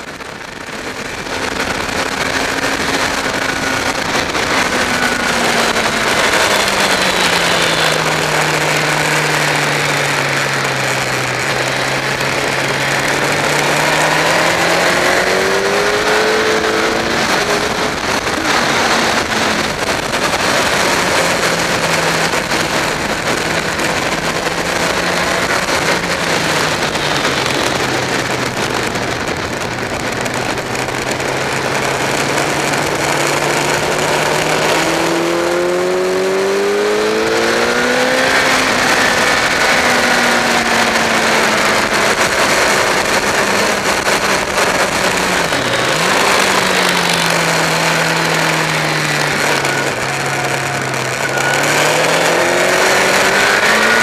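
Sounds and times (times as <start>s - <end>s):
motorcycle engine: 0.0s - 54.0s
wind rush: 0.0s - 54.0s.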